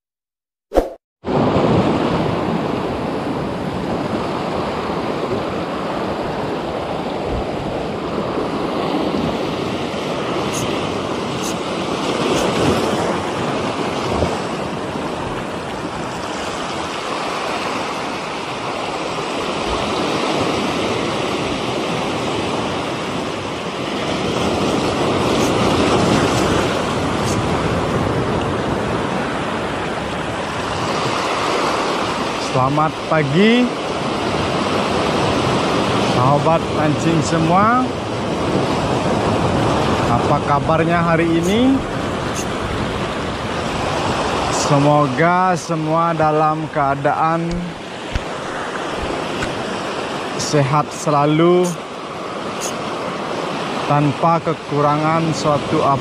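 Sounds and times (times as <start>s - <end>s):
waves breaking on beach: 1.2s - 56.0s.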